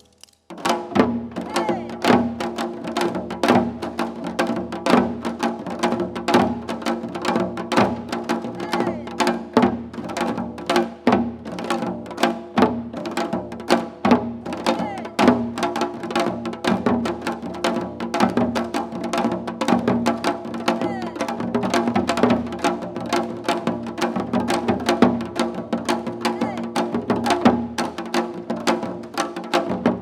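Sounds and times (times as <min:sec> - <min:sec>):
hourglass drums fast rhythm: 0:00.5 - 0:30.0.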